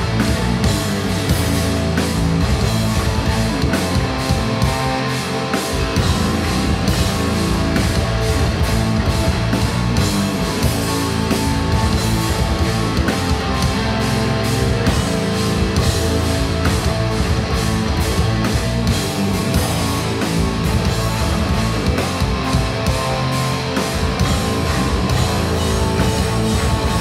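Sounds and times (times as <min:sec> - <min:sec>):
drum kit beat: 0:00.0 - 0:27.0
electric guitar chords: 0:00.0 - 0:27.0.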